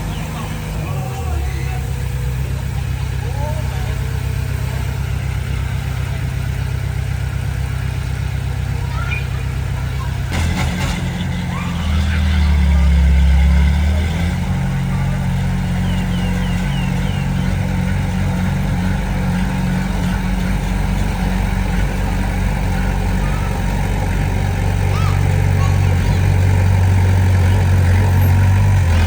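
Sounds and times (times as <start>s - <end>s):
diesel engine running at low revs: 0.0s - 29.0s.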